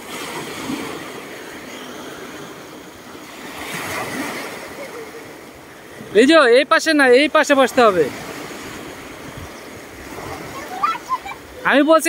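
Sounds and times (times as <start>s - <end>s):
waves washing over pebbles: 0.0s - 12.0s.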